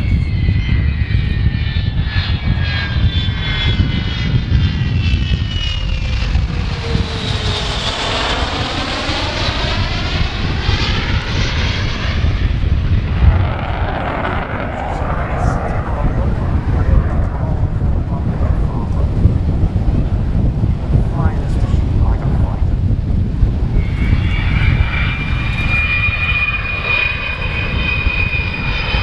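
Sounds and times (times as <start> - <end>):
jet engines passing overhead: 0.0 - 29.0.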